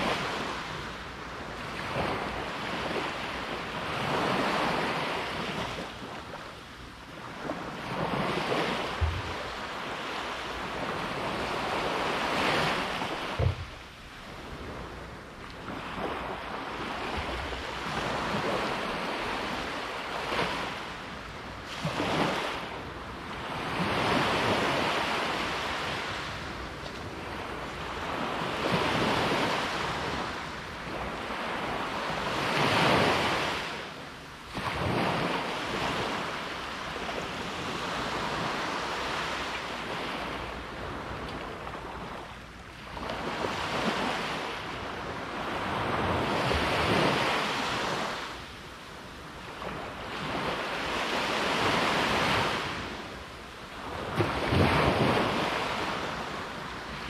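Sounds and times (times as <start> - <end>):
waves breaking: 0.0 - 57.0.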